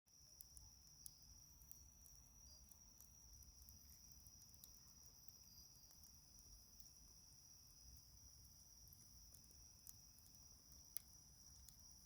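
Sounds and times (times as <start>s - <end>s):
night insects trilling: 0.1s - 12.0s
wood fire crackling: 0.2s - 12.0s.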